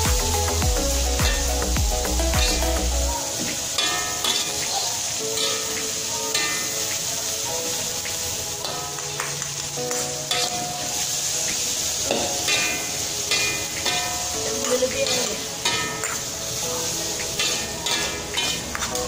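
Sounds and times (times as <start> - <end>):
background music: 0.0 - 19.0
food sizzling in a wok: 0.0 - 19.0
utensils scraping a wok: 3.3 - 19.0.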